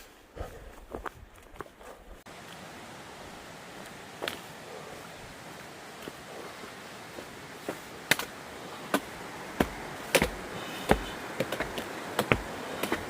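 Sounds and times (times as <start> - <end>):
footsteps on rocky trail: 0.0 - 2.7, 3.6 - 13.0
background hiss: 0.0 - 13.0.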